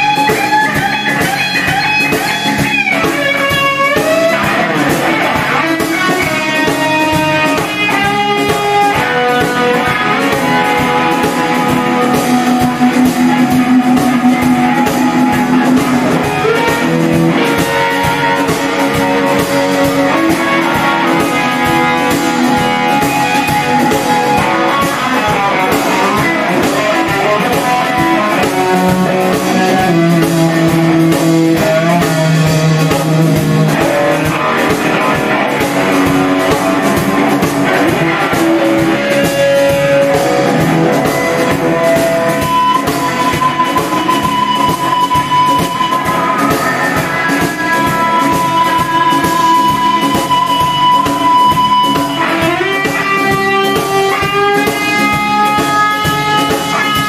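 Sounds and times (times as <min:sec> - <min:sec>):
guitar-led rock music: 0:00.0 - 0:57.0.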